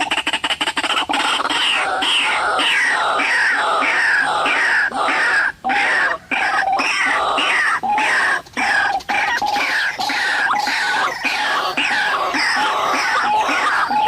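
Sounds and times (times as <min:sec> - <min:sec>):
waterhen calling harshly: 0:00.0 - 0:14.0.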